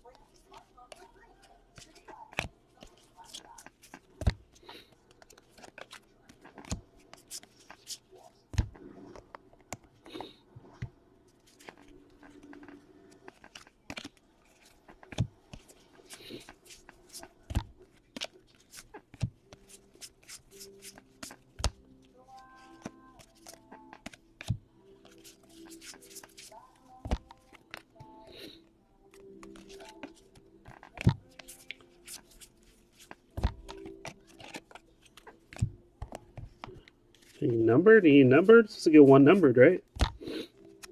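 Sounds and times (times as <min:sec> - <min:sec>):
cards ticking and rustling: 0:00.0 - 0:40.9
cards clicking: 0:00.1 - 0:28.5, 0:29.1 - 0:37.5.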